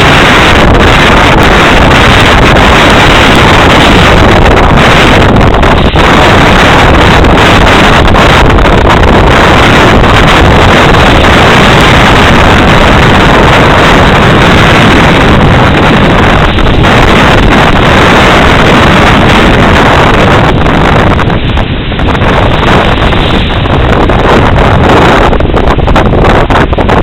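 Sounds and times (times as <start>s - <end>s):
storm wind on microphone: 0.0s - 27.0s.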